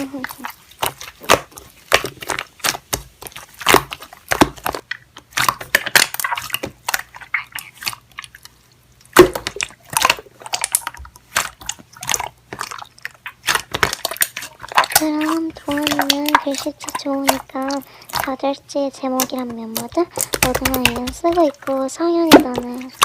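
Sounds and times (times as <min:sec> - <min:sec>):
slime squished by hand: 0:00.0 - 0:23.0.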